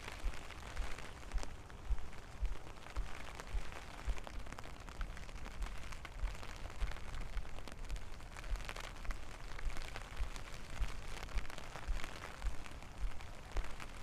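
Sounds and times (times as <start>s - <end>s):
raindrops ticking: 0.0s - 14.0s
steady rain falling: 0.0s - 14.0s.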